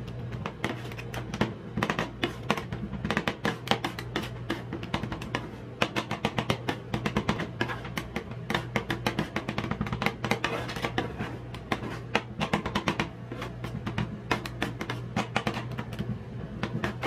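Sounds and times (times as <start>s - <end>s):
metal spatulas chopping and scraping: 0.3s - 16.0s, 16.6s - 17.0s.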